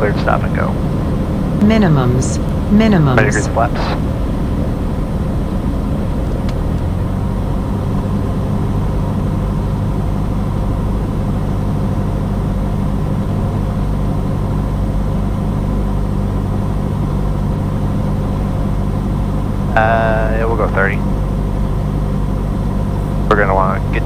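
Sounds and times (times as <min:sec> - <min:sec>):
airplane engine droning: 0:00.0 - 0:24.0.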